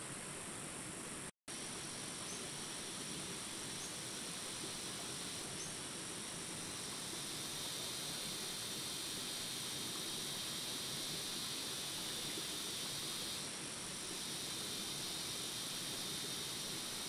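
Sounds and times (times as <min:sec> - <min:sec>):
forest insect drone: 0:00.0 - 0:17.0.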